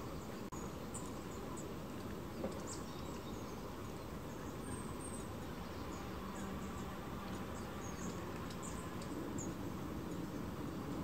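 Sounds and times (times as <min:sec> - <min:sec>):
background hiss and rumble: 0:00.0 - 0:11.0
small songbirds chipping: 0:00.0 - 0:11.0.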